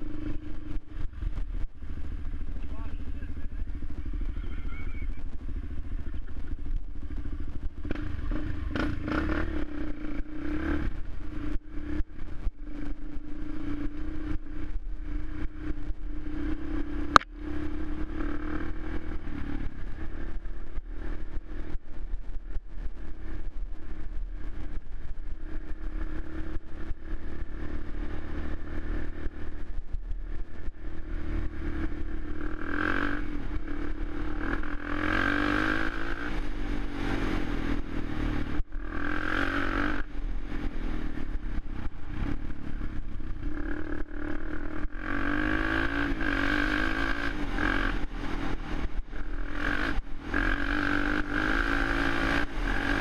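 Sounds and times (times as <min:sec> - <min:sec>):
quad engine running: 0:00.0 - 0:53.0.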